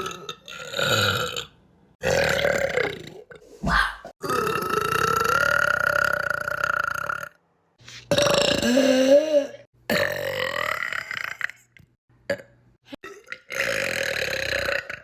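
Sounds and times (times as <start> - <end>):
person belching: 0.0 - 3.4, 4.0 - 7.4, 8.1 - 15.0.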